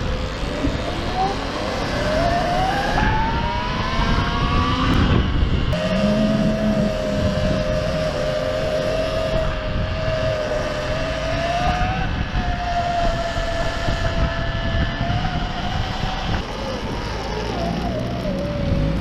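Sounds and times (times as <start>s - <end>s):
electric motor whine: 0.0s - 19.0s
wind and tyre rumble: 0.0s - 19.0s.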